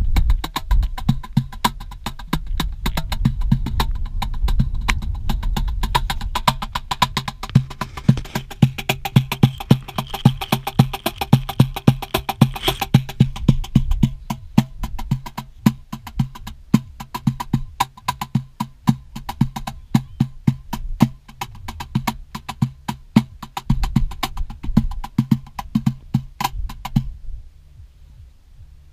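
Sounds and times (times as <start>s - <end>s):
cajon drumming by hand: 0.0s - 27.1s.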